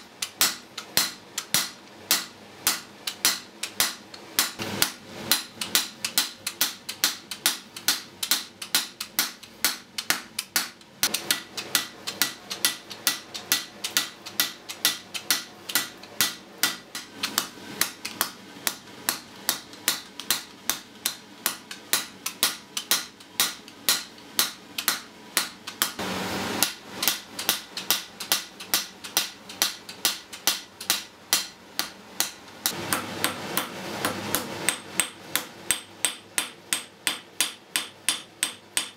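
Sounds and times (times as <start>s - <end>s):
hammer striking iron on anvil: 0.2s - 26.0s, 26.6s - 38.9s.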